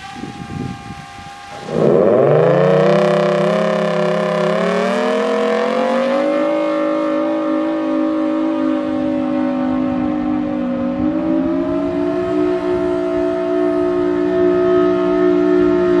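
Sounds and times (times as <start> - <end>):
warning siren winding up: 0.0 - 16.0.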